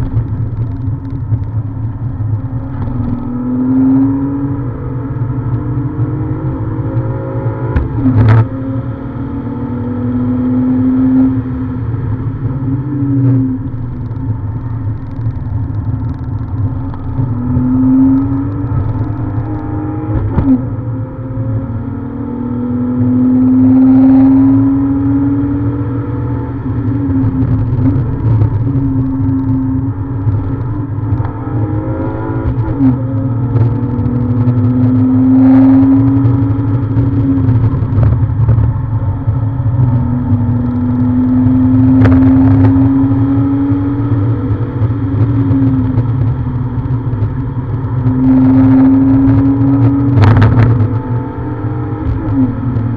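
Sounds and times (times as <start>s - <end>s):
car engine accelerating: 0.0s - 52.9s
low road rumble: 0.0s - 52.9s.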